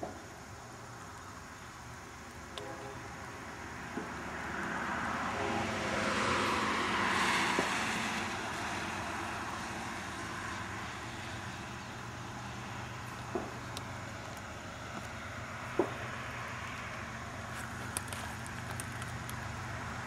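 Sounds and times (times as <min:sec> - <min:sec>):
tyres hissing on wet road: 0:00.0 - 0:20.0.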